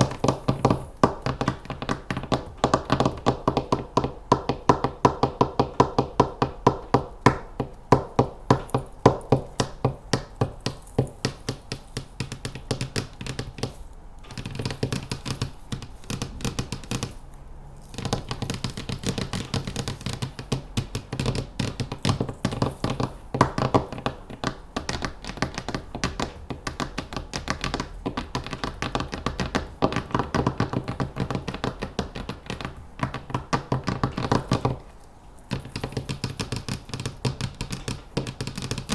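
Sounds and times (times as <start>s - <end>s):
fingernails tapping on hard object: 0.0s - 17.2s, 17.9s - 38.9s.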